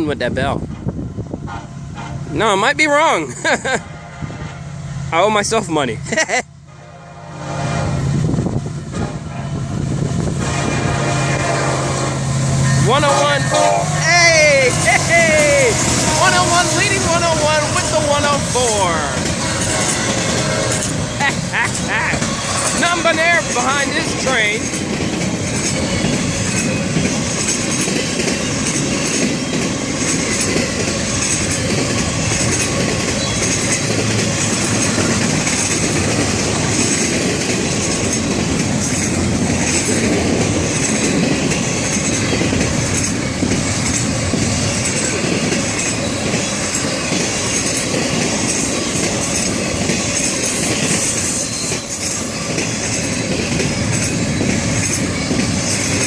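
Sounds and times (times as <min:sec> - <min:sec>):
train cars rolling past: 0:00.2 - 0:56.0.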